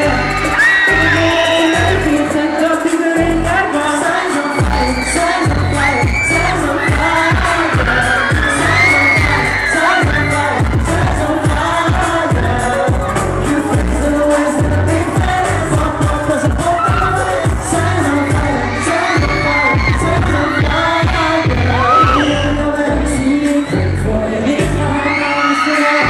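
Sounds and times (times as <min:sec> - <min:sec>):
music with steady beat: 0:00.0 - 0:25.0
group singing pop: 0:00.0 - 0:26.0.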